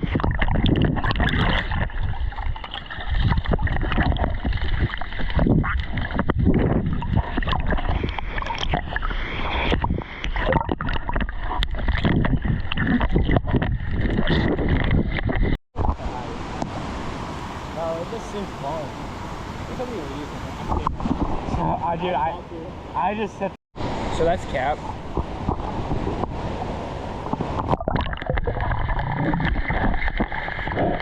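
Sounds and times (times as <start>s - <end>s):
water splashing and gurgling: 0.0s - 22.3s, 23.8s - 31.0s.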